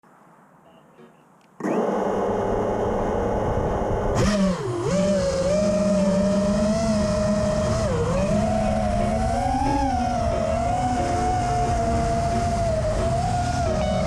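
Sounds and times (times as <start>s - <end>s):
quadcopter motors whining: 1.6s - 14.0s.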